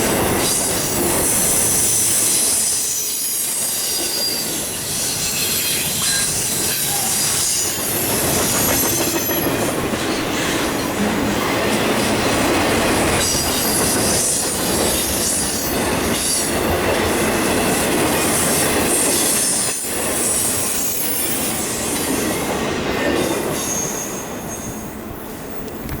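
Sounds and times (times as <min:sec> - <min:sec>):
freight train rumble: 0:00.0 - 0:26.0.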